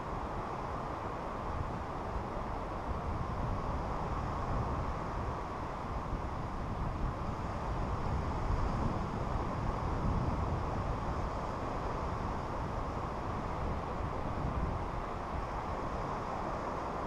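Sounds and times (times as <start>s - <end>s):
wind buffeting microphone: 1.4s - 16.7s.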